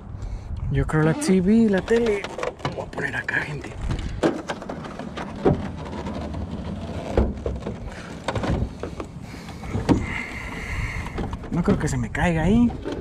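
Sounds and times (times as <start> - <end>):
low rumble of handling noise: 0.0 - 13.0.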